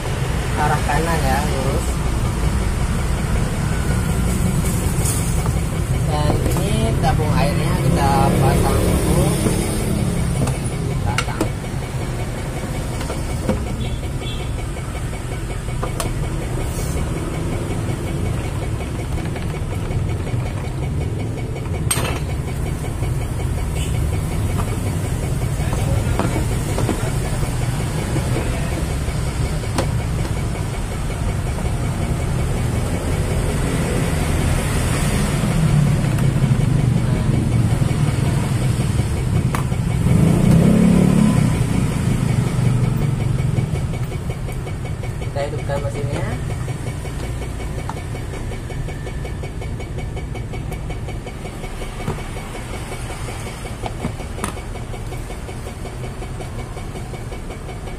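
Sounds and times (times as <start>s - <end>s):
low rumble of road traffic: 0.0s - 57.9s.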